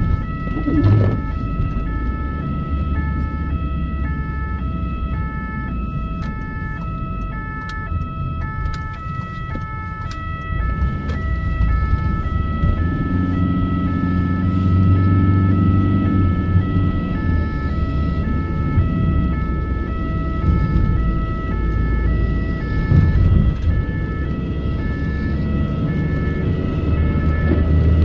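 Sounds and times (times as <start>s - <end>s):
engine and road rumble: 0.0s - 28.0s
two-tone ambulance siren: 0.0s - 28.0s.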